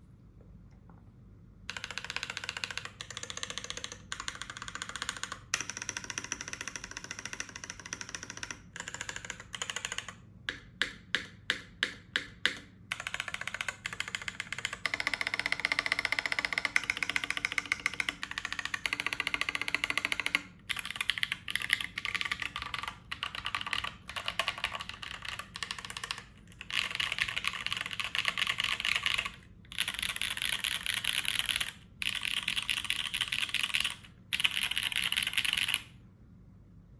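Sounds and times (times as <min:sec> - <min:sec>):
mechanical keyboard typing: 0:01.7 - 0:35.9.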